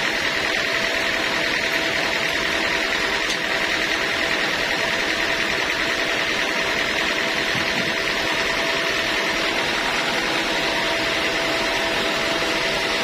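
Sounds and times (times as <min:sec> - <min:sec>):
band saw running: 0:00.0 - 0:13.0.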